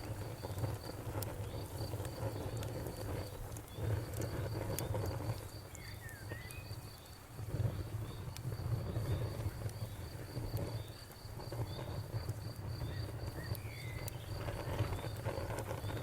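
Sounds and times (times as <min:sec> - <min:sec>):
bonfire crackling and popping: 0:00.0 - 0:16.0
crickets chirping: 0:00.0 - 0:16.0.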